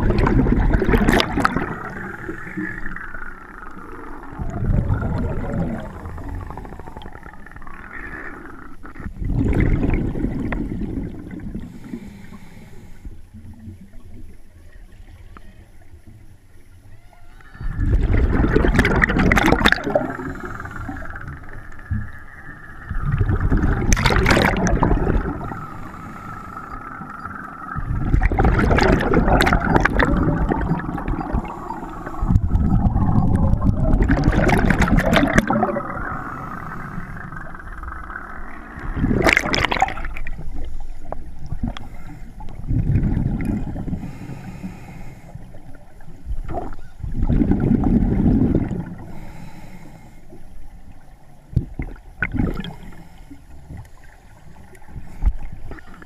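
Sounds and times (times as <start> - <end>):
scuba regulator bubbles gurgling: 0.0 - 16.2, 17.5 - 56.0.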